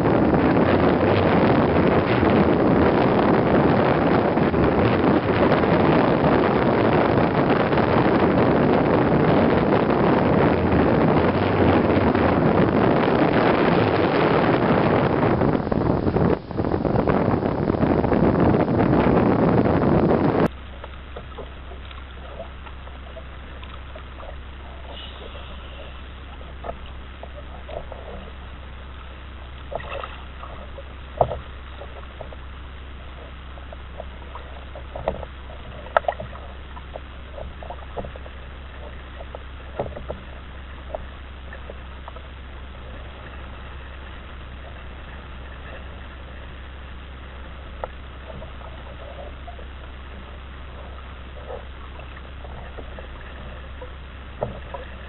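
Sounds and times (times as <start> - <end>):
low hum: 0.0 - 55.0
water lapping and splashing: 0.0 - 55.0.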